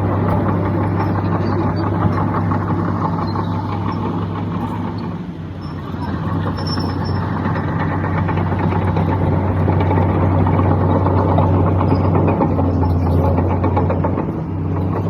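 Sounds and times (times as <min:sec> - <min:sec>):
heavy diesel engine humming: 0:00.0 - 0:15.0.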